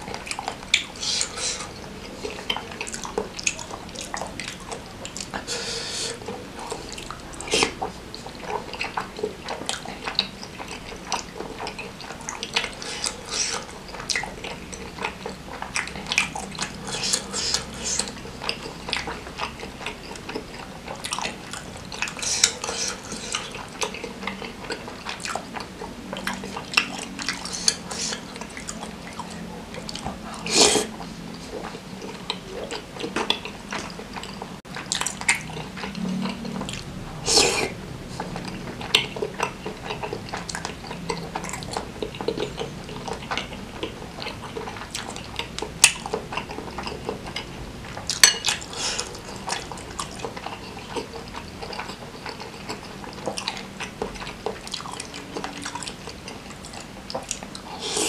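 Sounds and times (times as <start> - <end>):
person chewing and slurping: 0.0 - 58.0.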